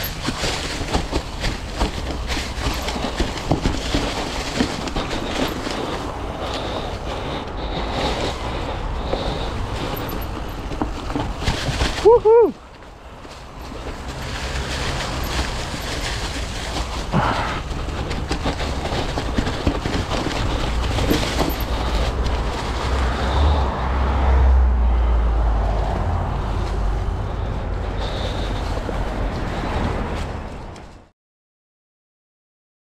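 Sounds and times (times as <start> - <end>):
bike tyres crunching over leaves: 0.0 - 31.0
bike rattling over bumps: 0.0 - 31.1.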